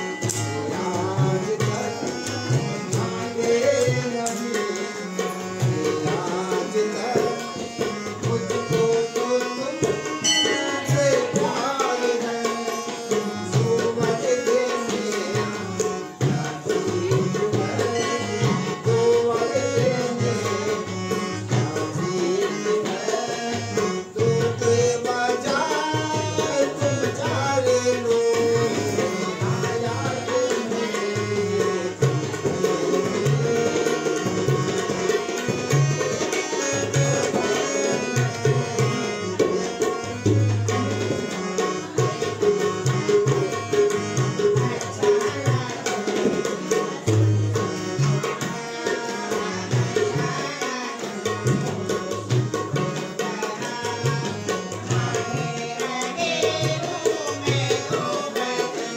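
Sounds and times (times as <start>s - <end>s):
harmonium chords: 0.0s - 58.9s
person singing: 0.0s - 58.9s
tabla rhythm: 0.0s - 58.9s.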